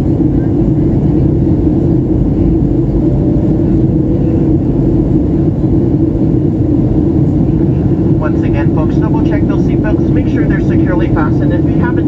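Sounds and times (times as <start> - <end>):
airliner cabin engine drone: 0.0 - 12.0.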